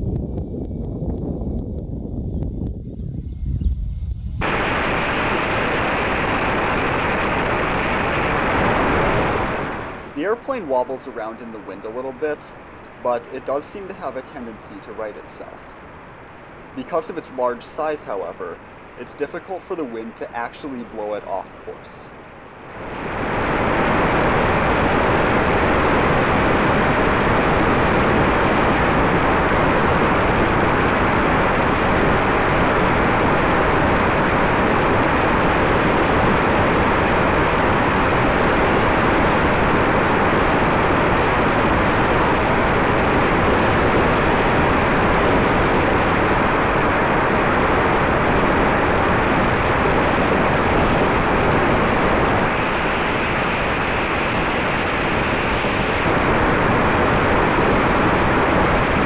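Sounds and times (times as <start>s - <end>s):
air rushing over camera: 0.0s - 59.0s.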